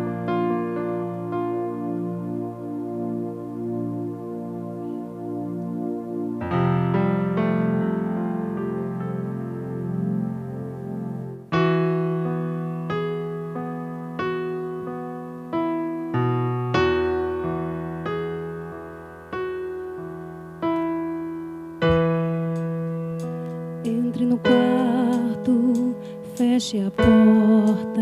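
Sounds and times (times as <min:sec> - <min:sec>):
electric piano chords: 0:00.0 - 0:28.0.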